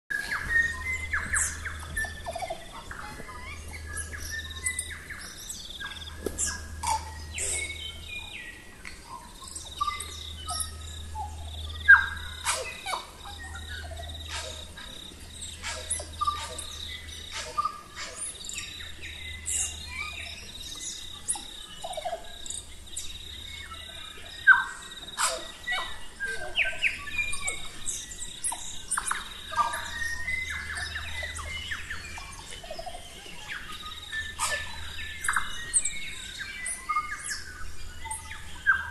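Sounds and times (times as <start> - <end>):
birds chirping and whistling: 0.1 - 38.9.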